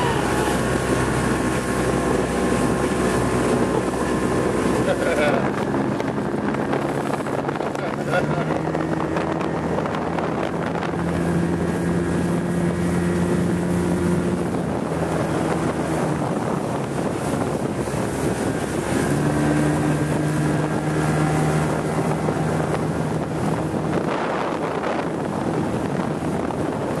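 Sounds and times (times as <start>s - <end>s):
outboard motor running: 0.0s - 27.0s
wind buffeting microphone: 0.0s - 27.0s.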